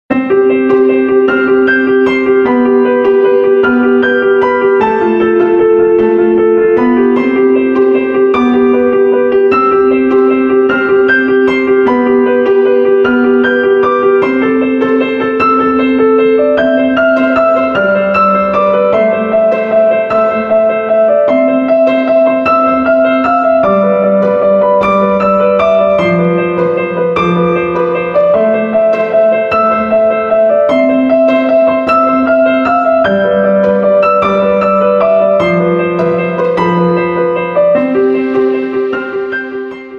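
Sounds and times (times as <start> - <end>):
piano music: 0.1 - 39.9.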